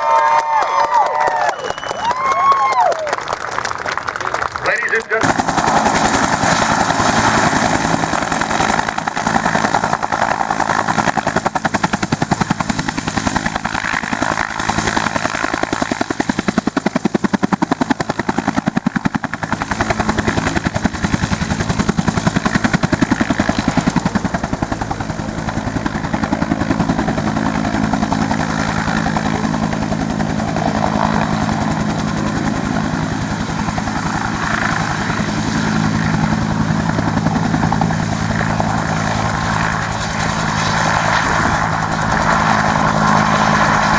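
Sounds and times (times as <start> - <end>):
helicopter engine drone: 0.0 - 43.9
helicopter rotor chopping: 0.0 - 43.9.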